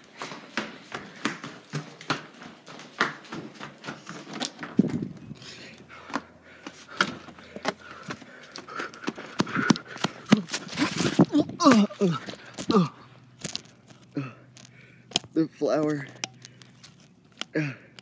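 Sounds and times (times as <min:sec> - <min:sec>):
quick uneven footsteps: 0:00.0 - 0:15.3.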